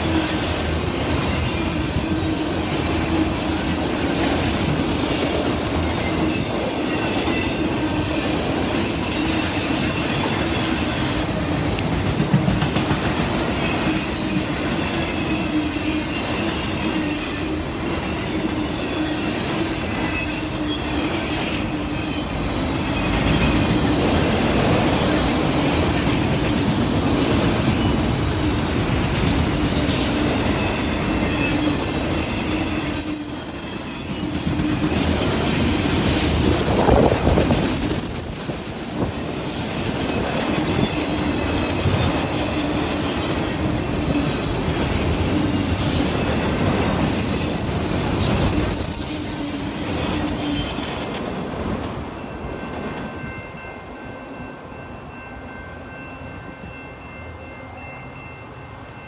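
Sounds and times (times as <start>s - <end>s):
steel wheels on rail: 0.0s - 59.0s.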